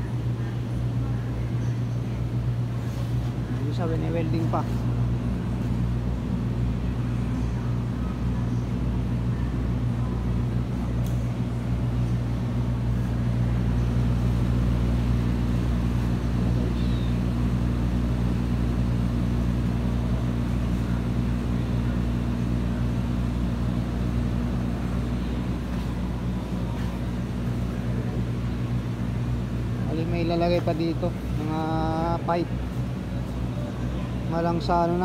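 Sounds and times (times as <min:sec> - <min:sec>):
low drone of running machinery: 0:00.0 - 0:35.0.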